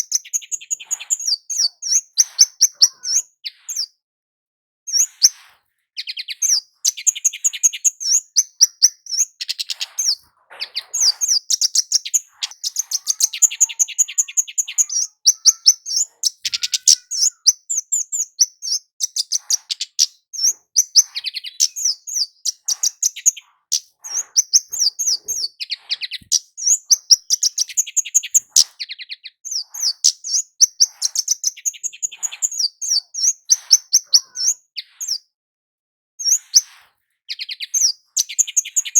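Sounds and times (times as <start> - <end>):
small bird chirping and trilling: 0.0 - 4.0, 4.9 - 35.4, 36.2 - 38.9.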